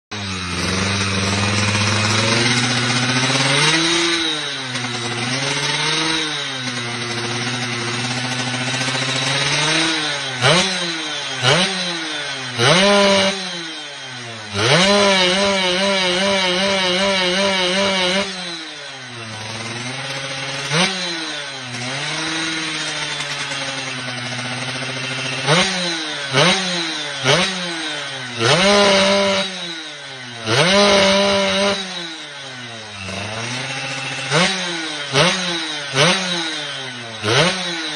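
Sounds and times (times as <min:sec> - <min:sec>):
two-stroke engine idling and revving: 0:00.0 - 0:37.9.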